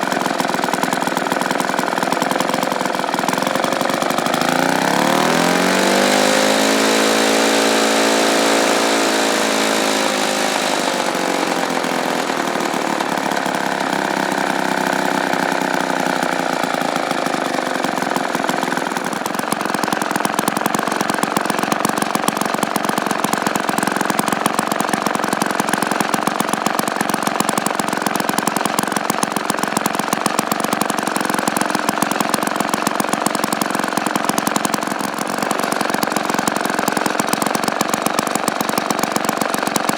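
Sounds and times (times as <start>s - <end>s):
lawnmower two-stroke engine running: 0.0s - 39.9s.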